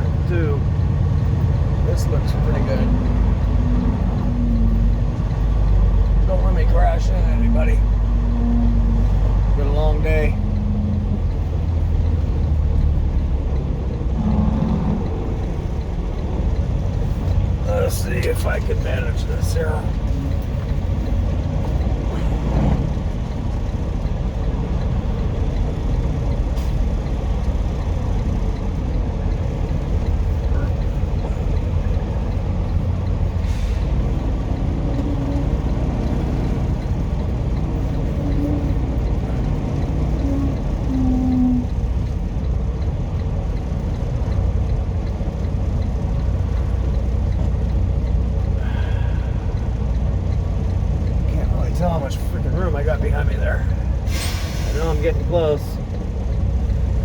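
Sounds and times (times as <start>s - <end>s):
diesel truck engine rumbling: 0.0s - 57.0s.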